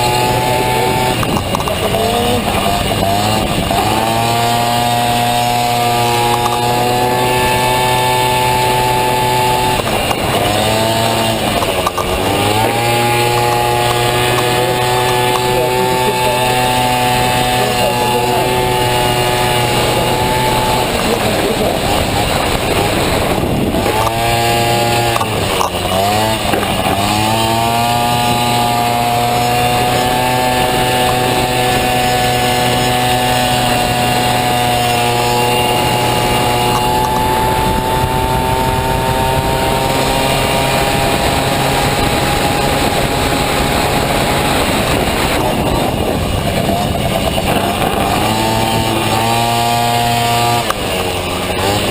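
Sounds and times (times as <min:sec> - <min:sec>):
scooter engine revving high: 0:00.0 - 0:51.9.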